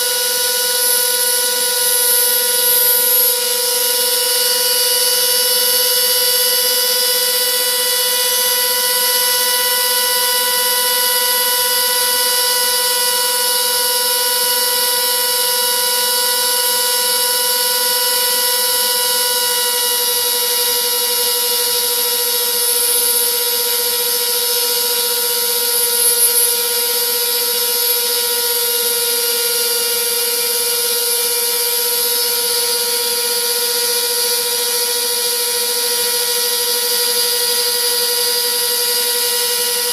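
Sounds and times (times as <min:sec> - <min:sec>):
router spindle whining carving wood: 0:00.0 - 0:39.9.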